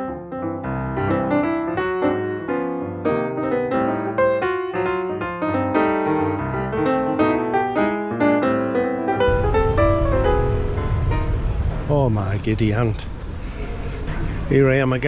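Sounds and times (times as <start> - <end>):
piano piece: 0.0 - 14.0.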